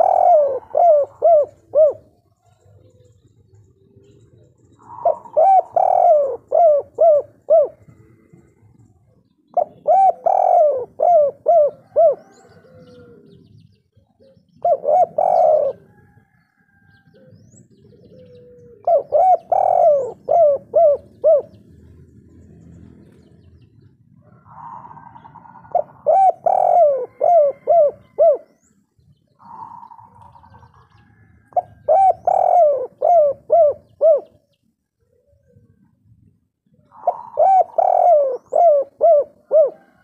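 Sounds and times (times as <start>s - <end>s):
dove cooing: 0.0s - 23.2s, 23.8s - 40.0s.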